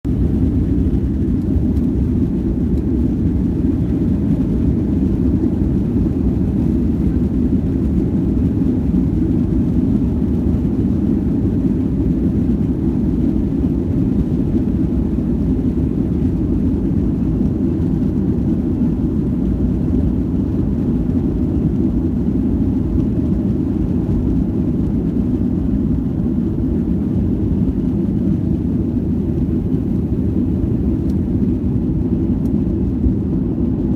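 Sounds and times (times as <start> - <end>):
jet engines roaring: 0.1 - 33.9.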